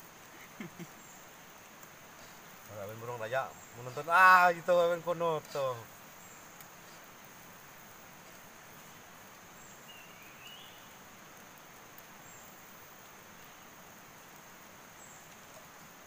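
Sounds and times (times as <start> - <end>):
faint even hiss: 0.0 - 16.0.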